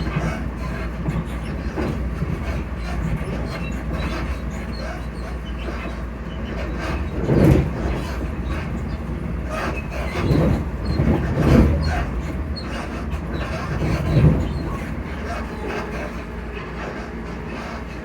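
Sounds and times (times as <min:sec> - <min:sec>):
traction motor hum: 0:00.0 - 0:18.0
train running rumble: 0:00.0 - 0:18.0.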